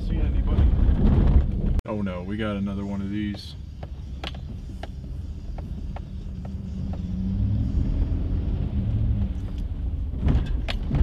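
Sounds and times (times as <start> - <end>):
truck engine and tyre rumble: 0.0 - 11.0.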